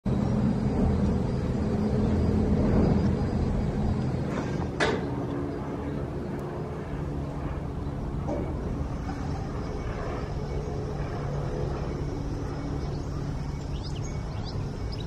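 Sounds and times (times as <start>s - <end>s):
low mechanical rumble with hum: 0.0s - 15.0s.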